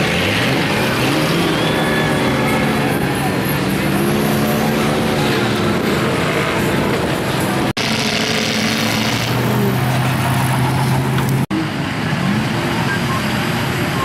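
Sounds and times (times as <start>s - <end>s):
truck engines running: 0.0s - 14.0s.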